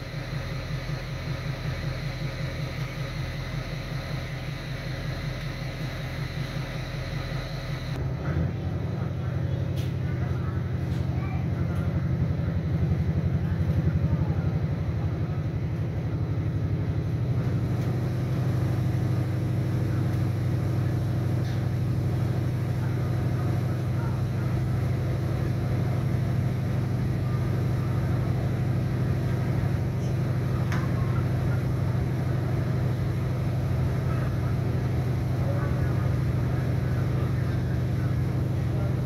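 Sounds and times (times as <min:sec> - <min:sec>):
diesel engine low hum: 0:00.0 - 0:39.0.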